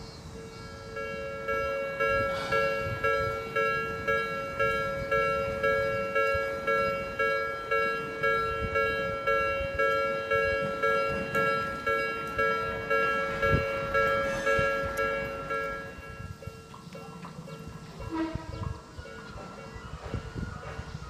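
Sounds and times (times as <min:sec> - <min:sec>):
railroad crossing bell dinging: 0:00.0 - 0:21.0.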